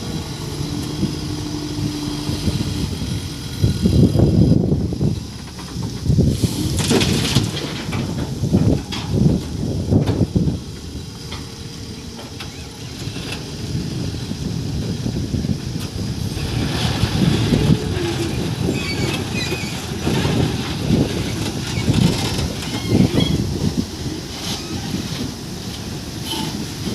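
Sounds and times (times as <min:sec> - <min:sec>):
backhoe diesel engine running: 0:00.0 - 0:26.9.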